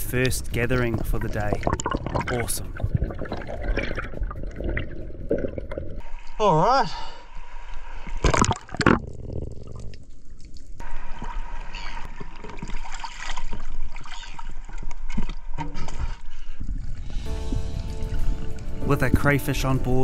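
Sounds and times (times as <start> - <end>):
sea water splashing: 0.0 - 6.4, 7.3 - 20.0.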